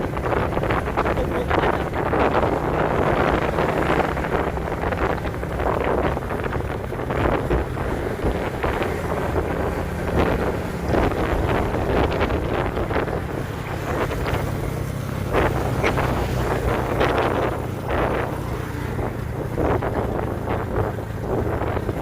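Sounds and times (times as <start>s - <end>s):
vehicle engine running: 0.0s - 22.0s
wind buffeting microphone: 0.0s - 22.0s.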